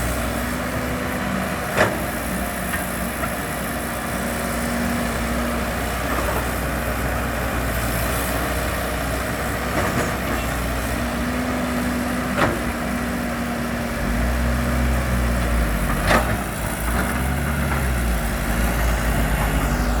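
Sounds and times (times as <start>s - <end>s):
heavy machinery diesel engine running: 0.0s - 20.0s.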